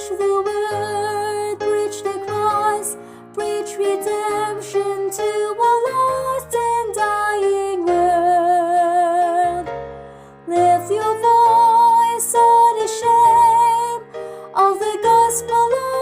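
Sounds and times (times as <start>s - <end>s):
soprano singing with vibrato: 0.0s - 9.7s, 10.5s - 16.0s
choral music accompaniment: 0.0s - 16.0s.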